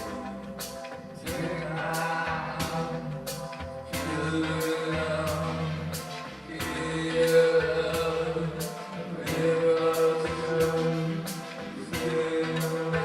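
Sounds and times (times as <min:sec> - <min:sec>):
song with singing over beat: 0:00.0 - 0:13.0.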